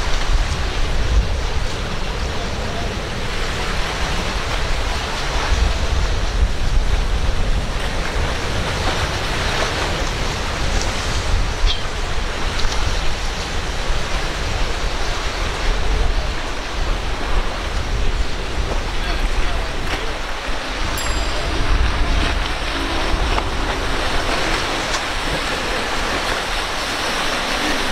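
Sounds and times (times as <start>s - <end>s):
surf and breaking waves: 0.0s - 27.9s
wind rumbling on microphone: 0.0s - 27.9s.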